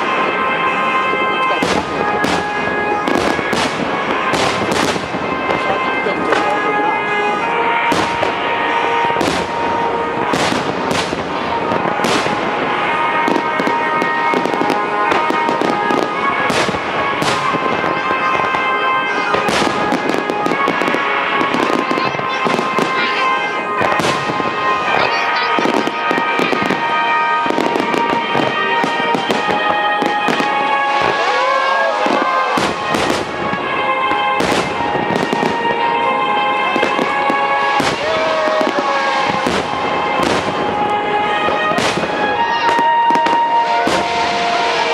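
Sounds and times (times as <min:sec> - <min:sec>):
fireworks bursting and crackling: 0:00.0 - 0:44.9
music with long held tones: 0:00.0 - 0:44.9.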